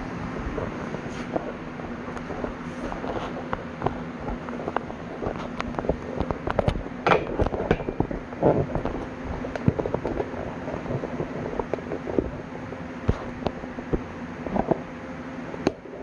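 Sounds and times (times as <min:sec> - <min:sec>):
welder low hum: 0:00.0 - 0:16.0.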